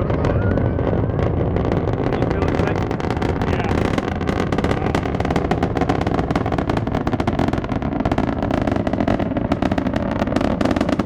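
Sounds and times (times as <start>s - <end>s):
rocket launch roar with crackling: 0.0s - 11.0s.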